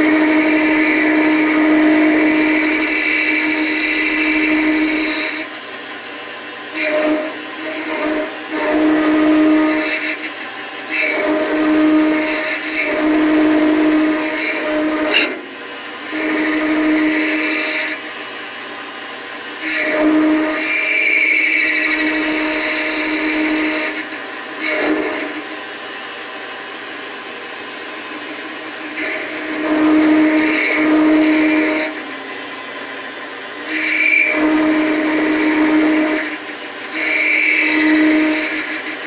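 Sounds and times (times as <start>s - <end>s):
metal lathe cutting: 0.0s - 39.0s.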